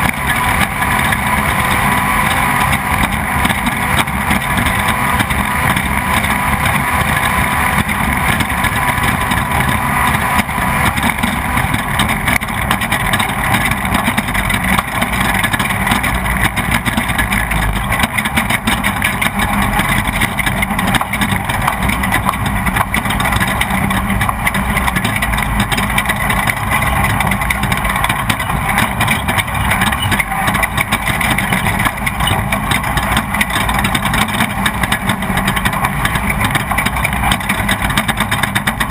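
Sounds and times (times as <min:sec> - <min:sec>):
engine running hard: 0:00.0 - 0:38.9
rush of noise: 0:00.0 - 0:38.9
small knocks and rattles: 0:02.7 - 0:38.9.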